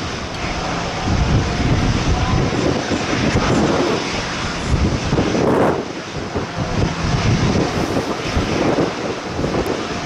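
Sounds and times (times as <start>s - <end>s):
jet engines rumbling past: 0.0s - 10.0s.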